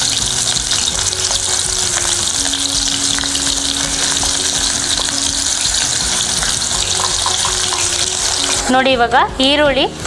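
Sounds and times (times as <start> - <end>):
onions sizzling in oil: 0.0 - 9.5.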